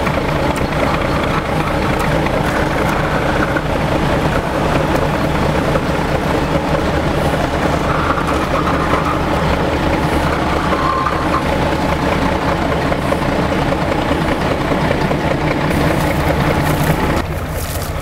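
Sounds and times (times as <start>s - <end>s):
heavy crane engine running: 0.0s - 18.0s.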